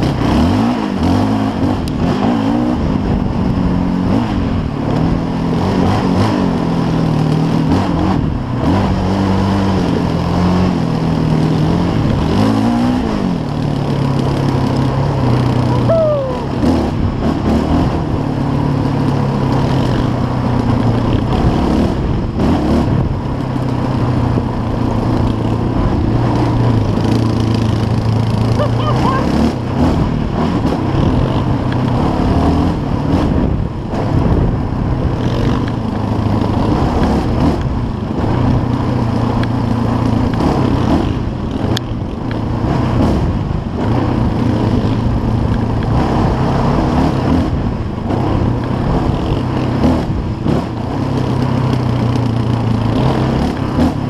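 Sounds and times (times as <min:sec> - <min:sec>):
engine running under throttle: 0:00.0 - 0:54.0
wind noise: 0:00.0 - 0:54.0.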